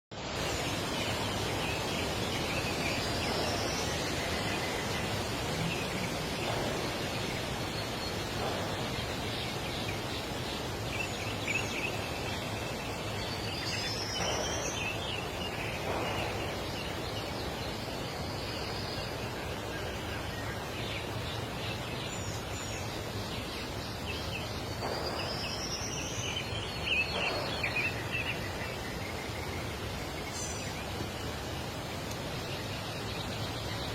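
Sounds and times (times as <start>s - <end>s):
steady background noise: 0.1s - 33.9s.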